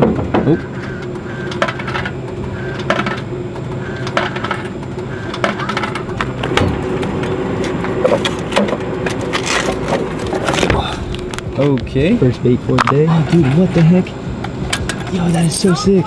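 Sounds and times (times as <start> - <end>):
vending machine humming: 0.0 - 16.0.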